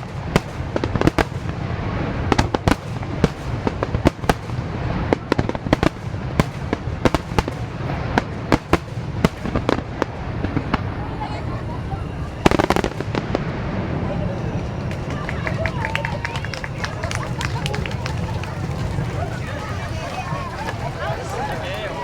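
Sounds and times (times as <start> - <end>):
continuous low rumble: 0.0 - 22.0
fireworks bursting: 0.0 - 22.0.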